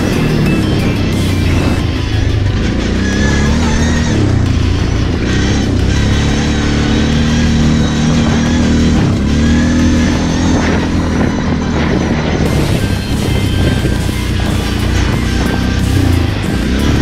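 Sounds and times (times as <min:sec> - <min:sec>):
background guitar music: 0:00.0 - 0:17.0
quad bike engine running: 0:00.0 - 0:17.0.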